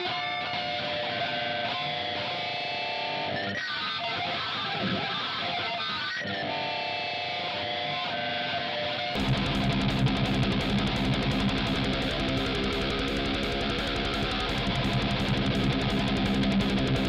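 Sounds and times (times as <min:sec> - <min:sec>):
guitar film music: 0:00.0 - 0:17.0.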